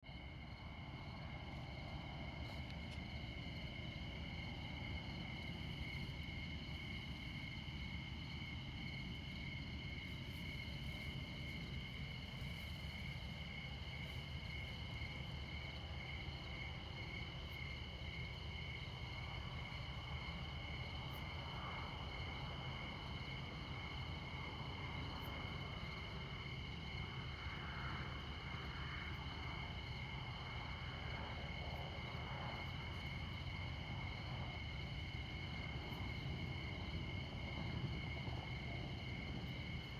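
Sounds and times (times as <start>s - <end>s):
crickets chirping: 0.0s - 39.9s
distant highway traffic rumble: 0.1s - 39.9s.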